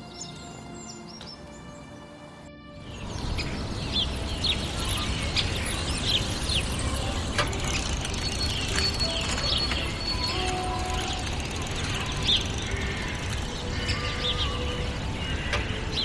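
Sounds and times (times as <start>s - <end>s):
birds chirping: 0.0s - 16.0s
steady rushing background noise: 0.0s - 16.0s.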